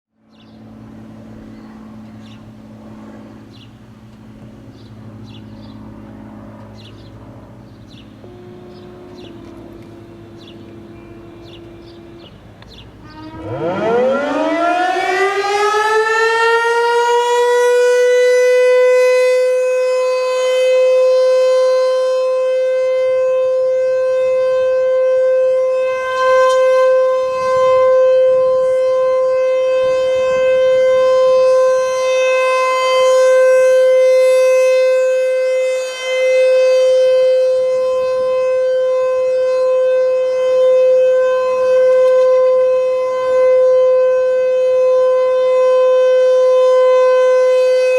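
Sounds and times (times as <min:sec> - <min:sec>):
warning siren winding up: 0:08.2 - 0:47.9.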